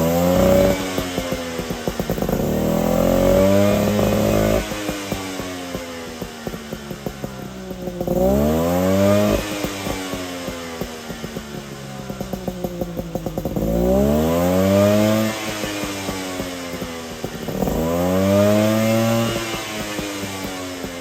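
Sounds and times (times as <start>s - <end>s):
engine throttle blips: 0.0s - 20.6s
two-stroke engine popping idle: 0.0s - 21.0s.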